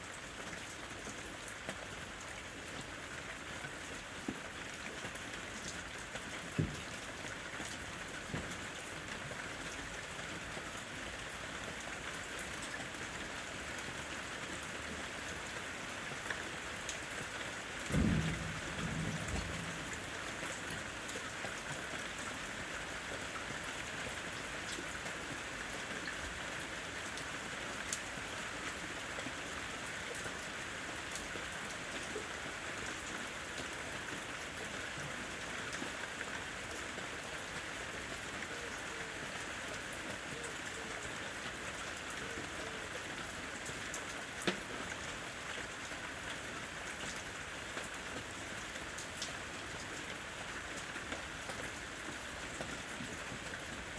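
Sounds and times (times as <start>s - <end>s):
rain falling on a roof: 0.0s - 53.9s.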